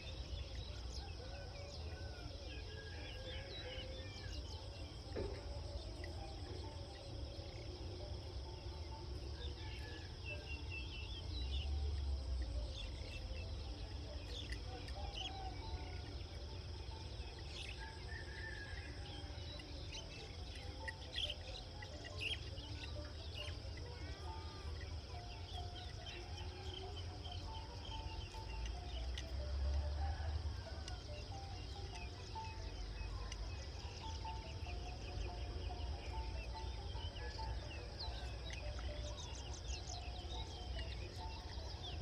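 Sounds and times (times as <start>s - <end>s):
high insect drone: 0.0s - 42.0s.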